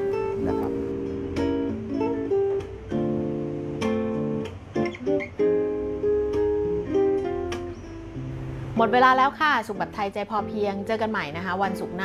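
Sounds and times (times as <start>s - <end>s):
fingerstyle acoustic guitar: 0.0s - 12.0s.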